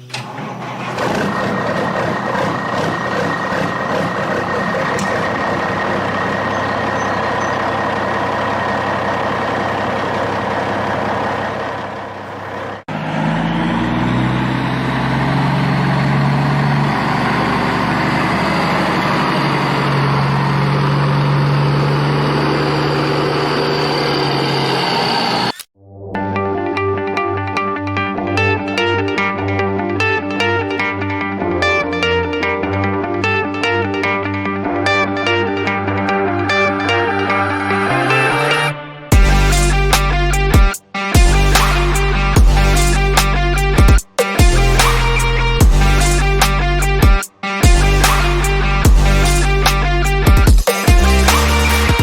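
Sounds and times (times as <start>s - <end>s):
heavy truck engine running: 0.0s - 25.7s, 35.6s - 52.0s.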